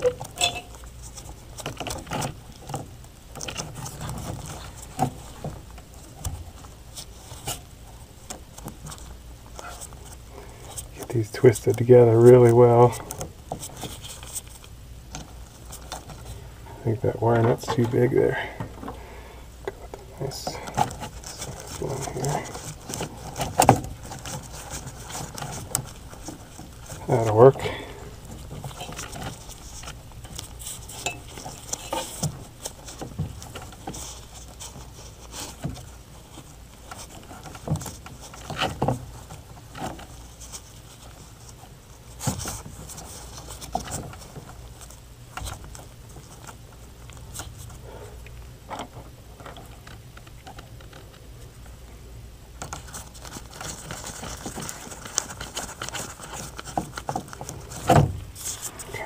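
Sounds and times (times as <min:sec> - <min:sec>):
wires being twisted: 0:00.0 - 0:16.4, 0:19.6 - 0:51.8, 0:52.6 - 0:59.0
low steady hum: 0:00.0 - 0:59.0.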